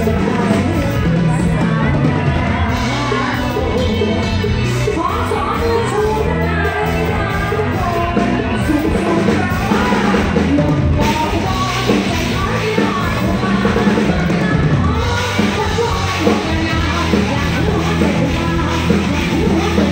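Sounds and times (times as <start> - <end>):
band playing drums bass keyboards: 0.0 - 19.9
woman singing: 0.0 - 19.9.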